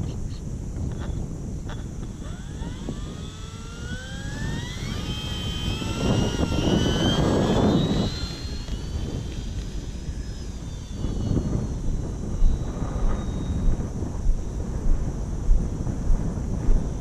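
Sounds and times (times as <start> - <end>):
electric motor whine: 0.0 - 17.0
wind on microphone: 0.0 - 17.0.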